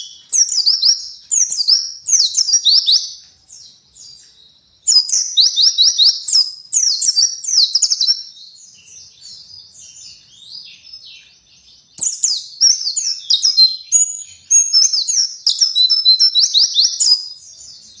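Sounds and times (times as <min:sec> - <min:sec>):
bird warbling song: 0:00.0 - 0:18.0
soft bird twittering: 0:00.0 - 0:18.0.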